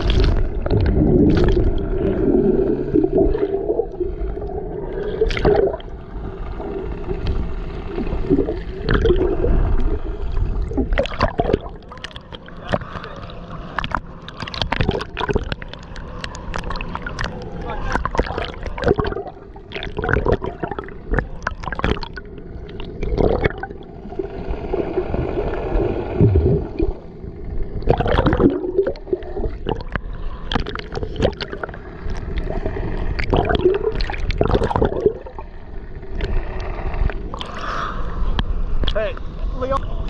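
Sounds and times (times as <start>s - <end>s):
water gurgling and splashing: 0.0s - 39.0s
steady low rumble: 0.0s - 40.0s.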